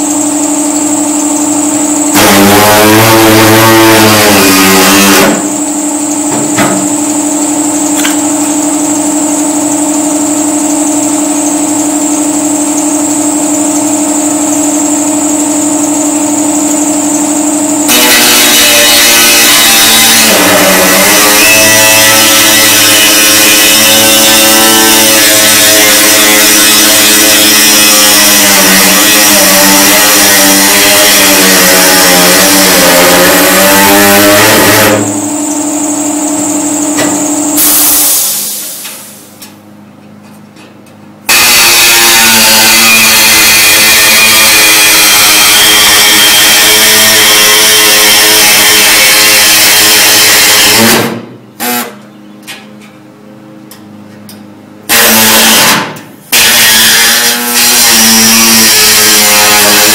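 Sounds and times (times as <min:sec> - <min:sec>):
power tool cutting sheet metal: 0:00.0 - 0:39.3, 0:41.3 - 0:52.0, 0:54.9 - 0:59.9.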